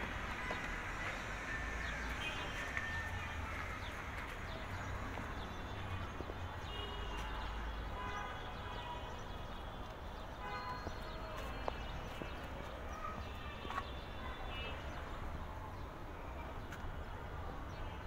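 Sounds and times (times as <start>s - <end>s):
low city rumble: 0.0s - 18.0s.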